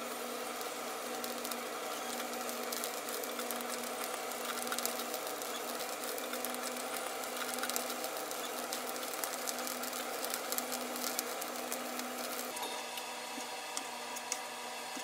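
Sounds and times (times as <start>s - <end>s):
meat sizzling on a grill: 0.0s - 14.9s.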